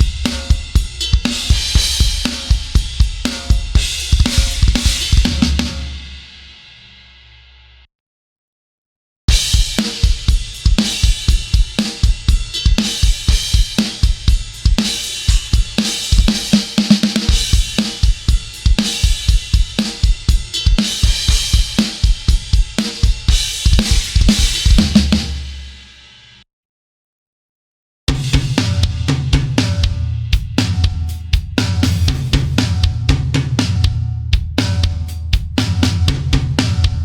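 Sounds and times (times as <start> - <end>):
metal drum kit groove: 0.0 - 7.6, 9.3 - 26.4, 28.1 - 37.0.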